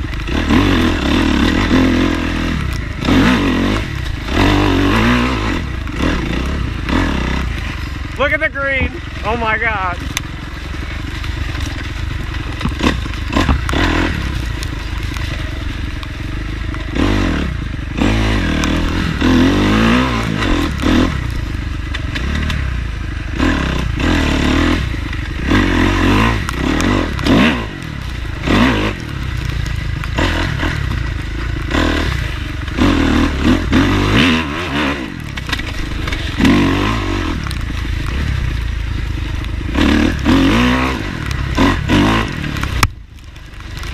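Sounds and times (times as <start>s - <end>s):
bike clattering over rough ground: 0.0s - 43.9s
dirt bike engine revving: 0.0s - 43.9s.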